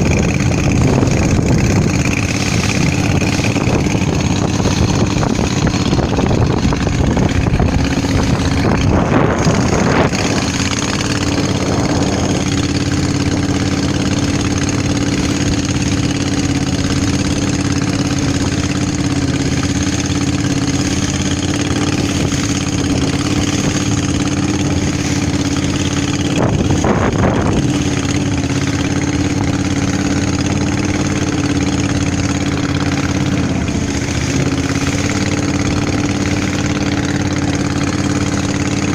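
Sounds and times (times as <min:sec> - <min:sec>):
boat engine running: 0:00.0 - 0:38.9
rush of noise: 0:00.0 - 0:38.9.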